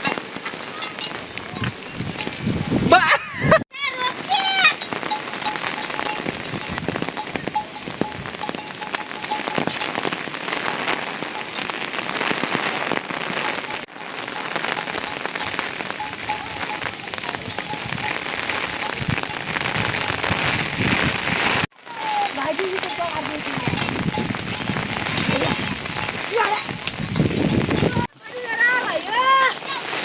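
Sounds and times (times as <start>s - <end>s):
rain and hail falling: 0.0s - 30.0s.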